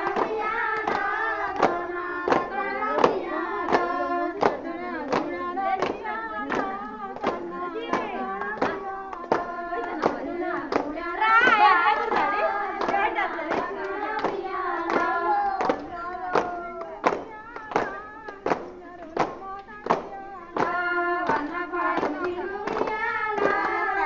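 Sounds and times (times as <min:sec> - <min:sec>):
hands clapping: 0:00.0 - 0:24.0
women and girls singing: 0:00.0 - 0:24.0.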